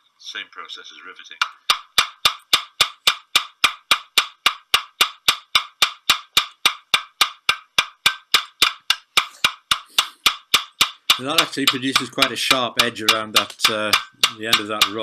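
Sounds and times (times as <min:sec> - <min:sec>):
hammer tapping on steel: 0:01.4 - 0:15.0.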